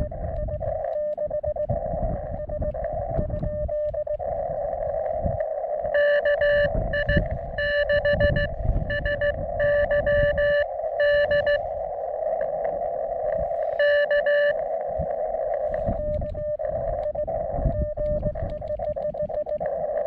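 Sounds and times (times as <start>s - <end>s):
buzzy morse code station: 0.0s - 11.8s, 13.3s - 20.0s
morse code tone: 0.0s - 11.8s, 13.3s - 20.0s
radio receiver hiss: 0.0s - 20.0s.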